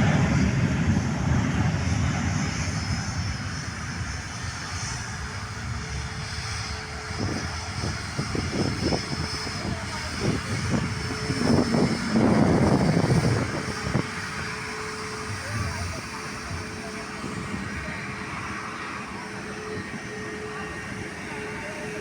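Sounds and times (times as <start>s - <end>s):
jet engines rushing with whine: 0.0s - 22.0s.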